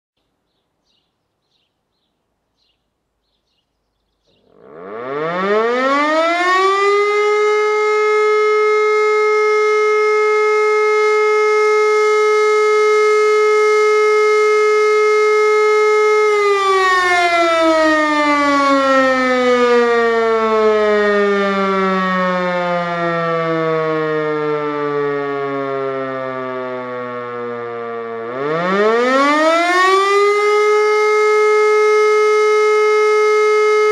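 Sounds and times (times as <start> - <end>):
motor siren winding up and down: 4.4 - 33.9.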